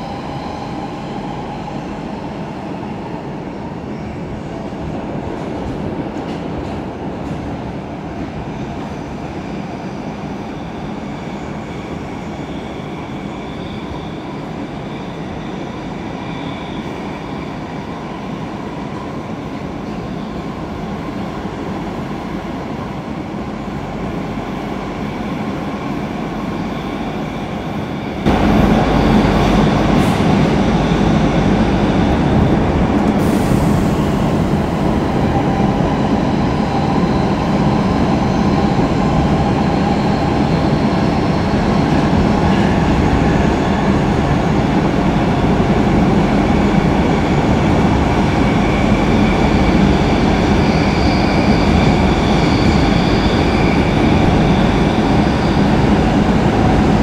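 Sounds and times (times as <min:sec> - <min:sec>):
subway car rumble: 0:00.0 - 0:57.0.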